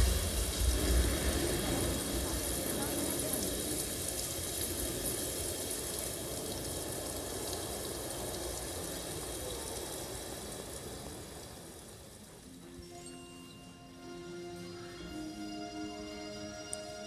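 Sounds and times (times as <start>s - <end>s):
rushing rain: 0.0s - 17.0s.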